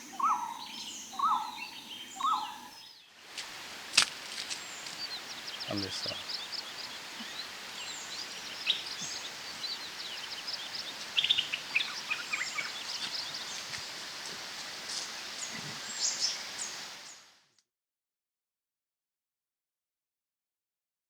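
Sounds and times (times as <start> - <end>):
birds chirping: 0.0 - 17.2
steady background hiss: 0.0 - 17.5.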